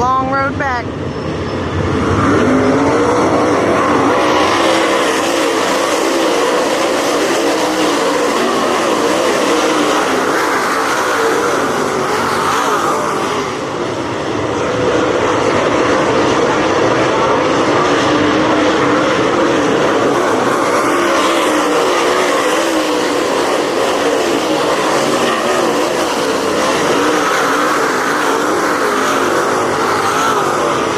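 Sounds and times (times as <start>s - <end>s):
race car engines: 0.0s - 30.9s.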